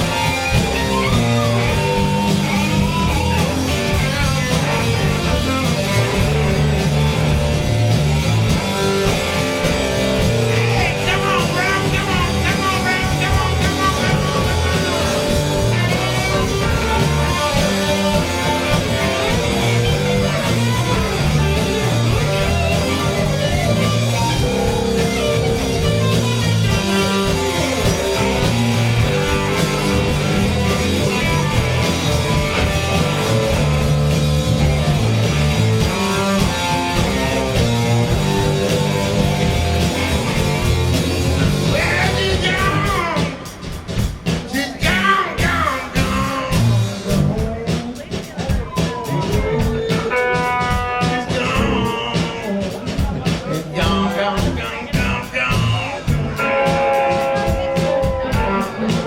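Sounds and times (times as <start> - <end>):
electric guitar: 0.0 - 59.0
rock band playing live: 0.0 - 59.0.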